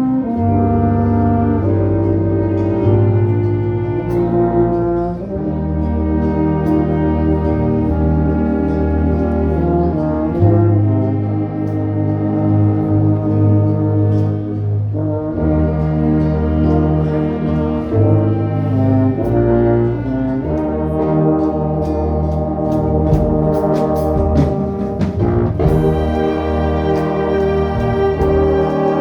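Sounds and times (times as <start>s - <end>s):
orchestra with brass playing chords: 0.0s - 29.0s
percussion strikes: 0.0s - 29.0s.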